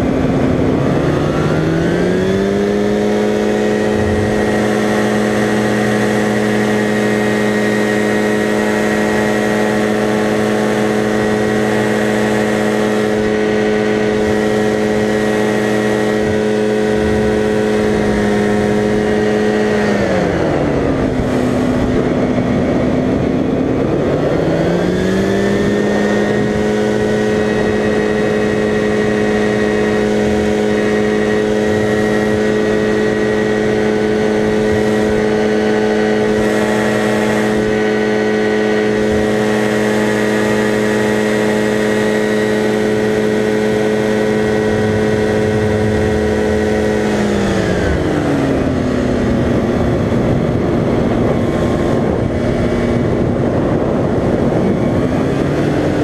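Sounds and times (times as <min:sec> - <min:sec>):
ultralight engine and propeller: 0:00.0 - 0:56.0.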